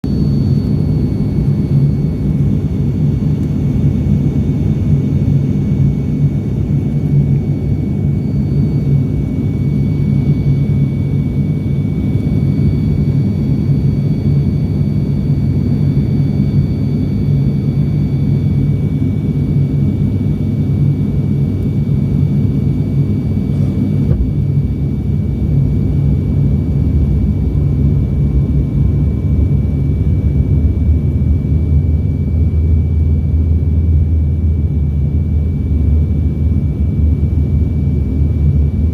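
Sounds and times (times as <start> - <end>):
faint high engine whines: 0.0 - 38.9
turboprop cabin drone: 0.0 - 38.9.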